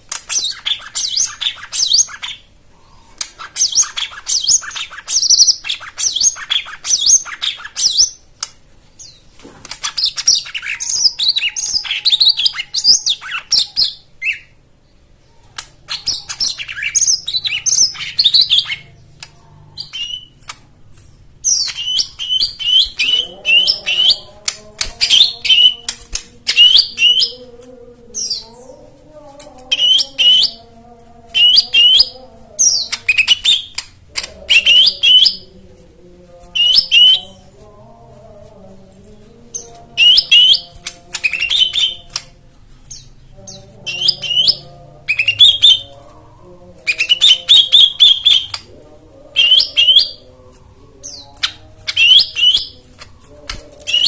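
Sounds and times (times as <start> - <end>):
songbird chirping and twittering: 0.0 - 54.0.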